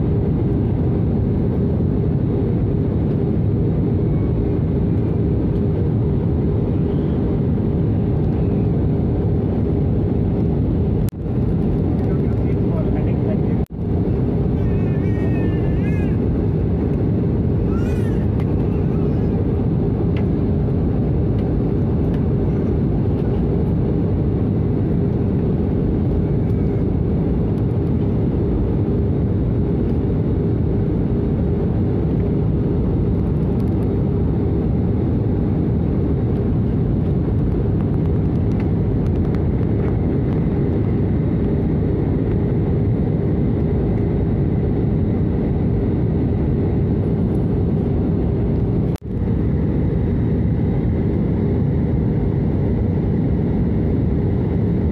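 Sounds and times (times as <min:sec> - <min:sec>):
engine and airflow rush: 0:00.0 - 0:54.9.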